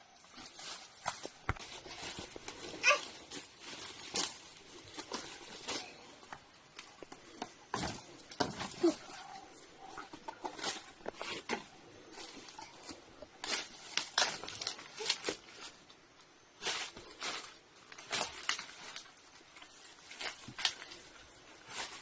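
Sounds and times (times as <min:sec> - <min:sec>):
footsteps crunching through dry leaves: 0:00.2 - 0:07.1, 0:07.7 - 0:15.9, 0:16.6 - 0:22.0.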